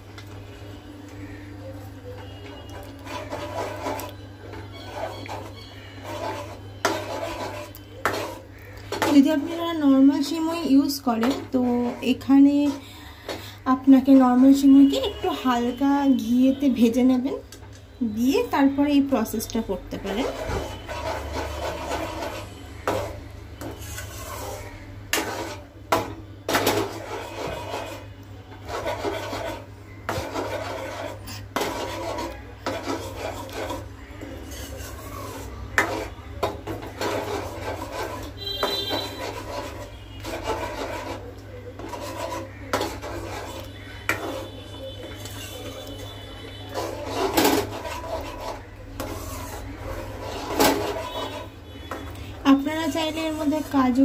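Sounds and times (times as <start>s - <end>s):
metal spoon scraping a pan: 2.2s - 54.0s.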